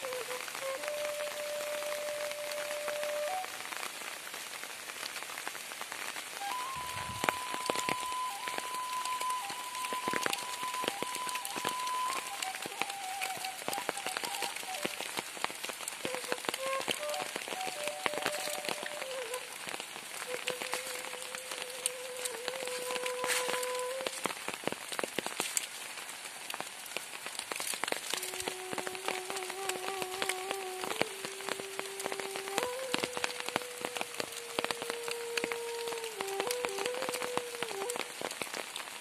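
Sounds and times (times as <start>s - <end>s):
soft flute melody: 0.0s - 25.1s, 26.0s - 39.0s
heavy rain on leaves and water: 0.0s - 39.0s.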